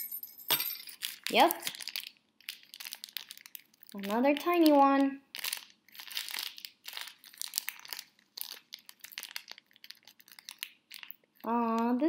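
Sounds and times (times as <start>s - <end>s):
wrapping paper crinkling and tearing: 1.0s - 11.5s.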